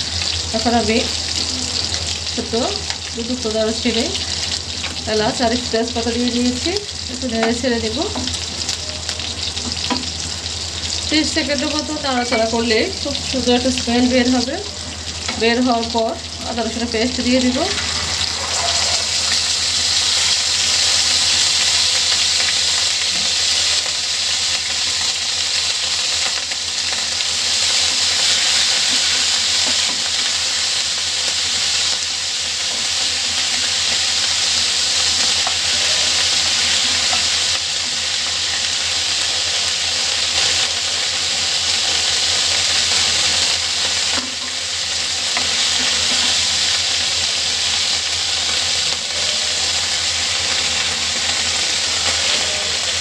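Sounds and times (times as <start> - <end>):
paste sizzling in hot oil: 0.0 - 53.0.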